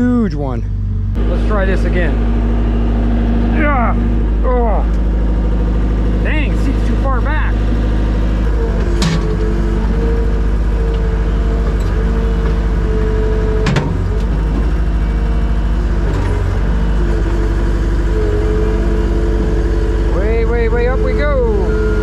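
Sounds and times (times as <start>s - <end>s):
hydraulic whine: 0.0s - 22.0s
skid steer engine running: 0.0s - 22.0s.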